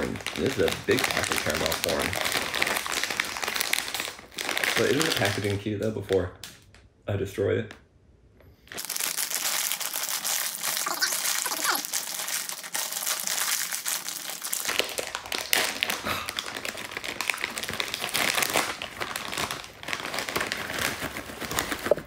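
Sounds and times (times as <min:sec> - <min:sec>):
plastic snack bag crinkling: 0:00.0 - 0:06.2, 0:08.7 - 0:22.0.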